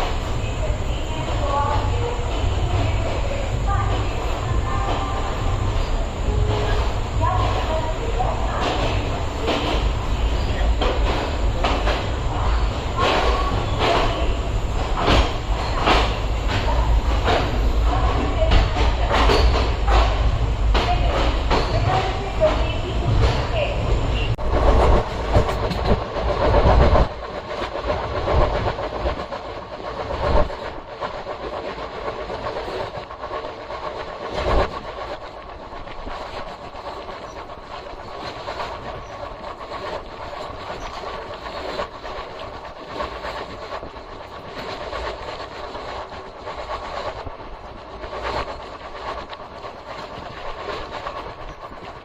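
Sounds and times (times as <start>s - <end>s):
clickety-clack of train: 0.0s - 52.0s
train wheels on rail: 0.0s - 52.0s.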